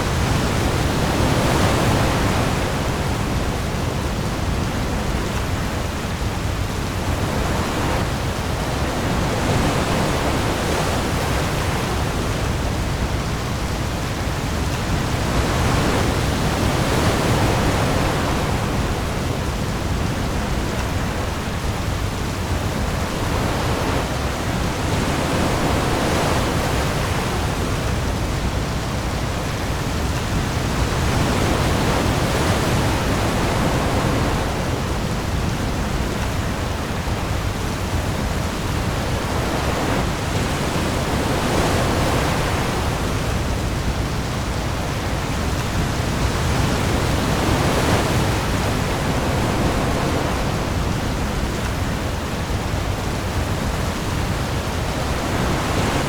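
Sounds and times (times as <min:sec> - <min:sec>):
heavy rain on the sea: 0:00.0 - 0:56.0
waves breaking: 0:00.0 - 0:56.0.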